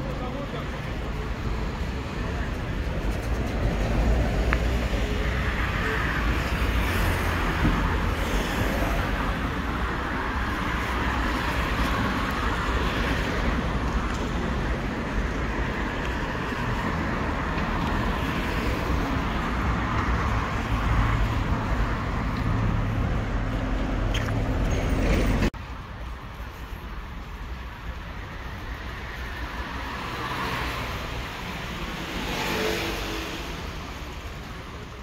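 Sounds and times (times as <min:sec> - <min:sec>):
cars and vans on busy road: 0:00.0 - 0:35.0.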